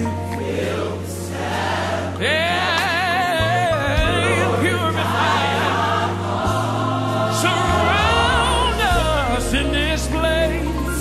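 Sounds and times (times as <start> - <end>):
choir singing: 0.0 - 11.0
lead singer: 0.0 - 11.0
bass line: 2.1 - 11.0.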